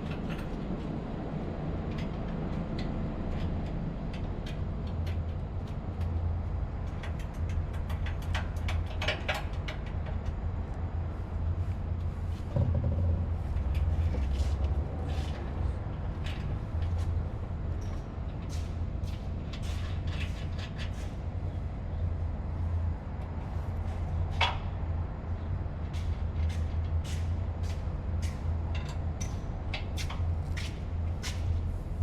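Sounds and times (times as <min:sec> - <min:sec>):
low machinery hum: 0:00.0 - 0:32.0.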